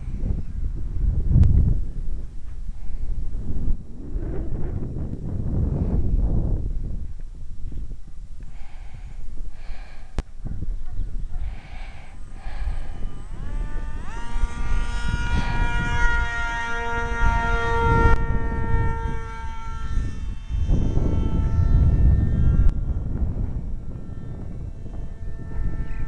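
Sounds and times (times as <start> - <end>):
electric motor and propeller whining: 0.0 - 26.0
wind rumbling on microphone: 0.0 - 26.0.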